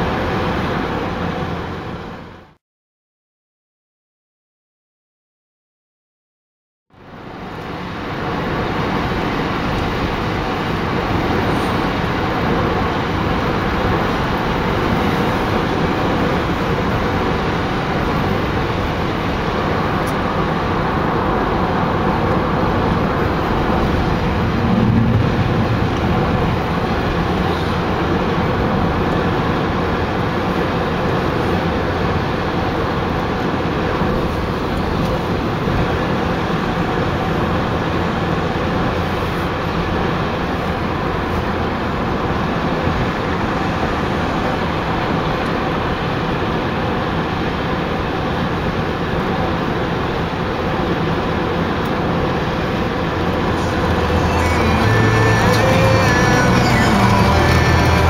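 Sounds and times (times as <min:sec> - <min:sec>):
tyres and engine road noise: 0:00.0 - 0:02.6, 0:06.9 - 0:58.0.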